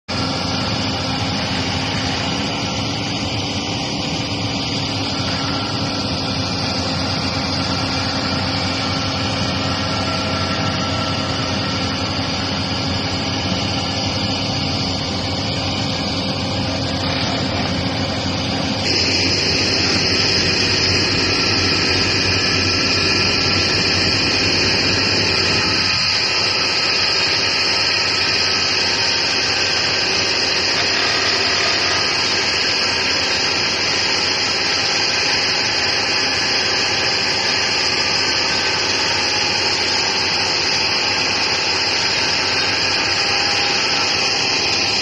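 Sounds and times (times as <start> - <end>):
excavator diesel engines and hydraulics: 0.0 - 45.0
high steady whine: 0.0 - 45.0.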